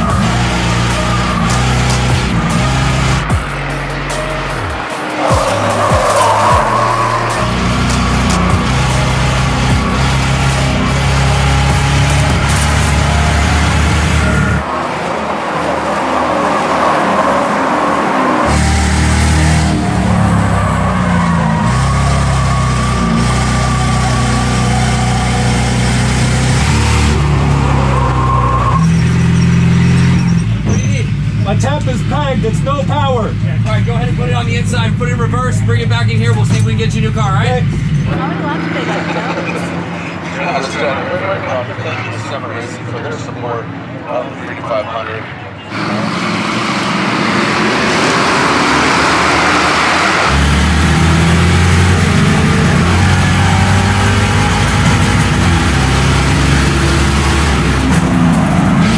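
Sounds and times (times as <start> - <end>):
race car engine running hard: 0.0 - 44.4, 45.5 - 58.9
road noise: 0.0 - 58.9.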